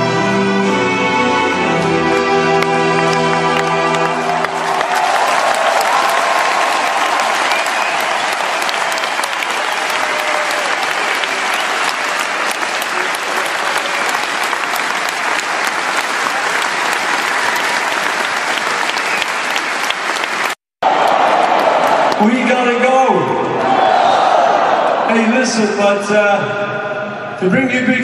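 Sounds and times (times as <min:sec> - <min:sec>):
crowd applauding: 0:01.7 - 0:25.1.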